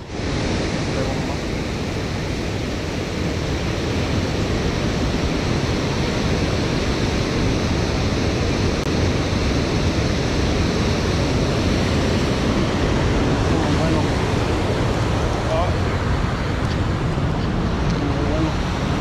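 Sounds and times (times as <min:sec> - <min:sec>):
water rushing from spillway: 0:00.0 - 0:19.0.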